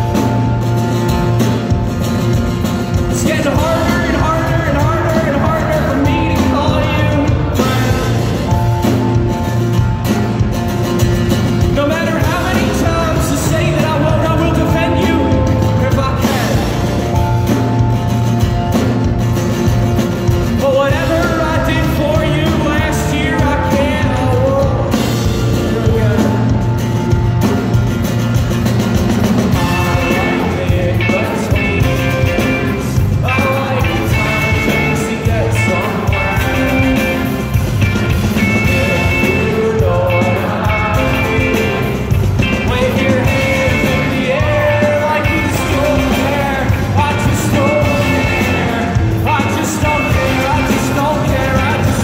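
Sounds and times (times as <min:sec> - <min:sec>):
live rock band: 0:00.0 - 0:52.0.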